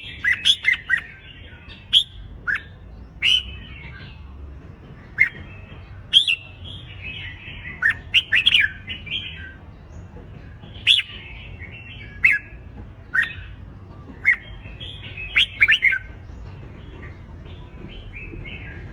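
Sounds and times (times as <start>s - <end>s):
soft bird chattering: 0.0s - 4.3s, 5.0s - 18.9s
bulbuls singing sharp phrases: 0.0s - 18.9s.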